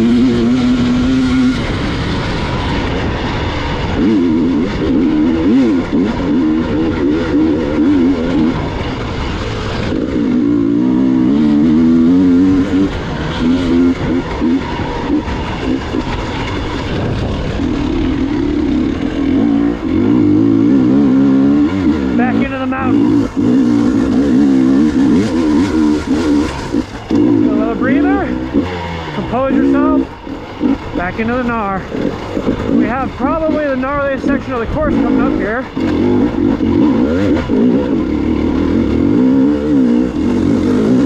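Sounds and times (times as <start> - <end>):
motorcycle engine revving: 0.0 - 41.0
steady rushing noise: 0.0 - 41.0.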